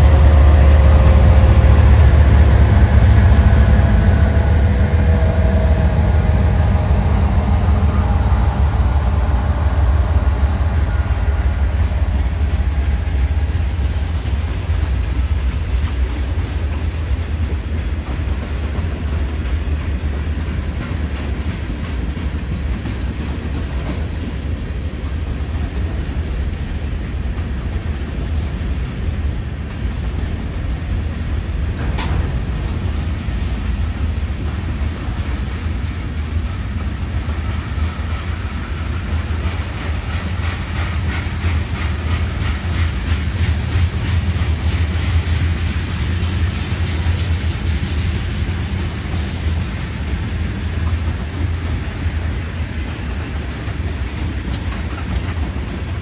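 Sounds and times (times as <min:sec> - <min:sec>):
diesel locomotive engines: 0:00.0 - 0:56.0
steel wheels rumbling on rail: 0:00.0 - 0:56.0.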